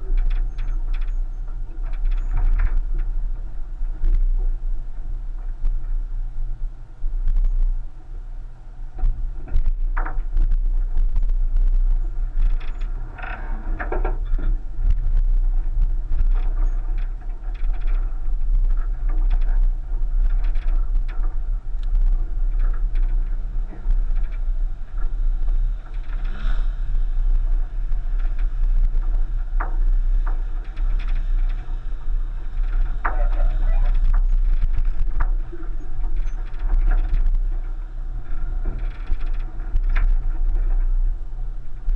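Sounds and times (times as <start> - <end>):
wheels knocking and clattering: 0.0 - 6.6, 9.0 - 41.9
car tyres rumbling on dirt: 0.0 - 41.9.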